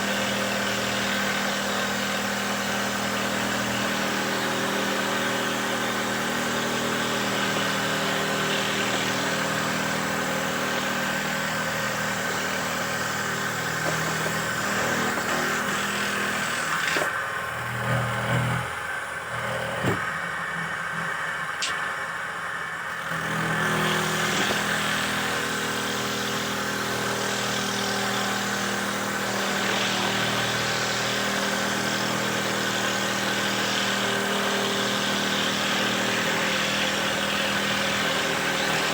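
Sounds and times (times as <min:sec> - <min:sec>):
machine motor humming: 0:00.0 - 0:38.9.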